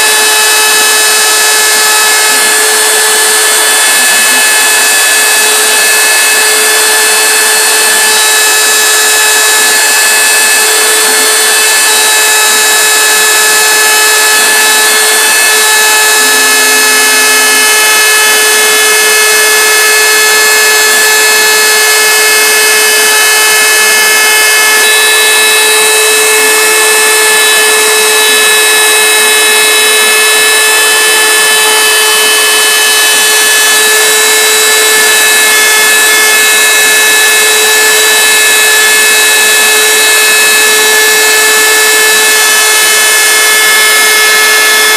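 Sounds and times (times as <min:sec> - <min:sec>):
router spindle motor whine: 0:00.0 - 0:44.9.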